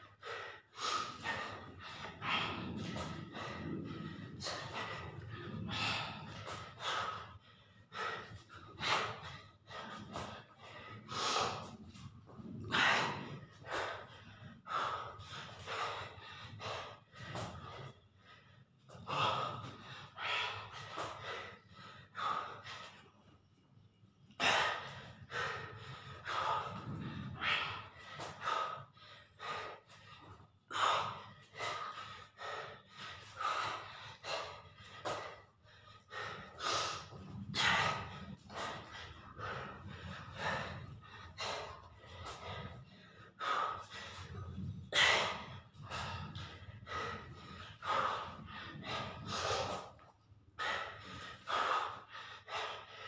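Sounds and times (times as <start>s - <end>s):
man breathing hard: 0.0s - 53.0s.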